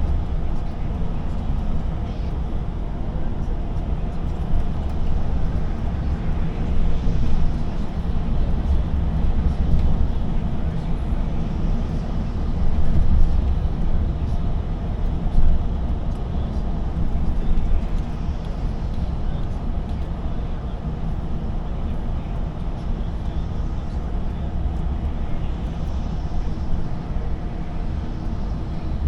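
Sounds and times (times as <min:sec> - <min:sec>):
truck engine and tyres rumbling: 0:00.0 - 0:29.0.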